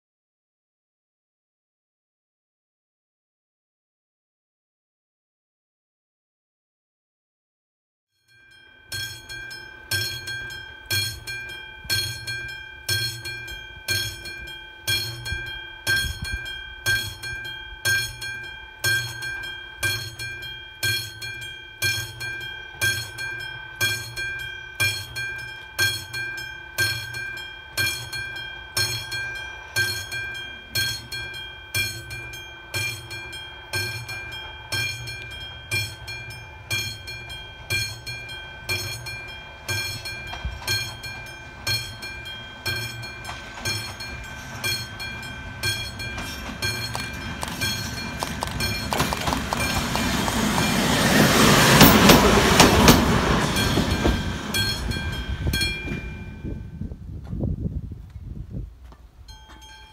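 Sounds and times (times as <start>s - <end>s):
level crossing warning bell: 8.3s - 56.9s, 59.2s - 59.9s.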